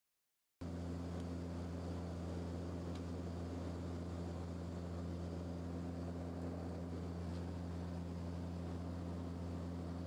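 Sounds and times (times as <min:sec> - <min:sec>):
propeller hum: 0:00.6 - 0:10.0
rush of air and engine noise: 0:00.6 - 0:10.0.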